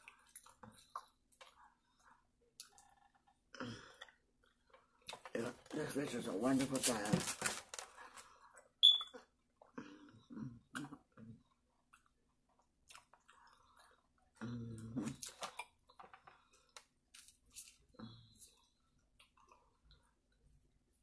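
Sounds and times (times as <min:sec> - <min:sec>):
person chewing food: 0:00.0 - 0:05.3, 0:07.9 - 0:20.6.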